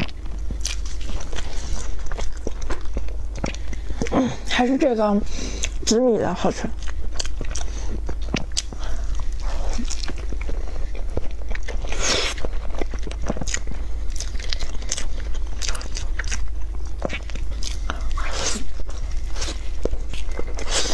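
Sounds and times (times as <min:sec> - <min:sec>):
woman biting and chewing cake: 0:00.0 - 0:04.5, 0:06.7 - 0:20.9.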